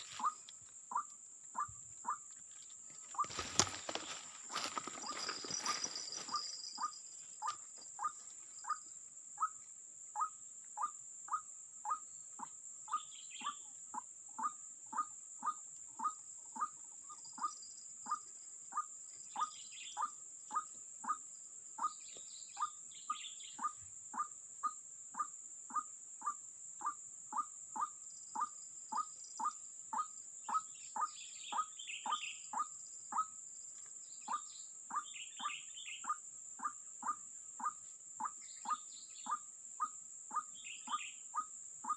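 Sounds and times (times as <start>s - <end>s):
faint bird chirps: 0.0s - 41.9s
high insect drone: 0.0s - 41.9s.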